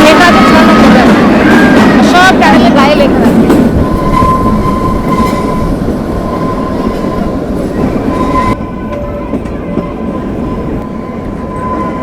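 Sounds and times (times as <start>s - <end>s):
train rumble and clatter: 0.0s - 12.0s.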